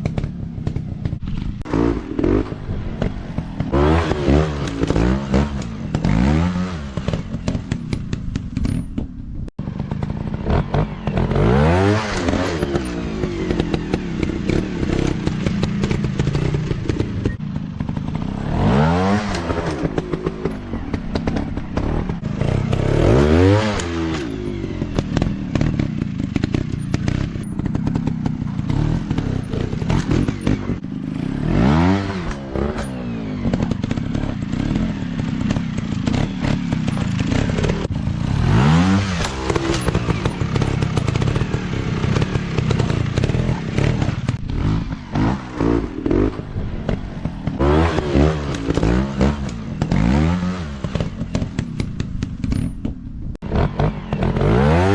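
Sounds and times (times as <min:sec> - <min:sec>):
dirt bike engine revving: 0:00.0 - 0:08.8, 0:09.6 - 0:54.9.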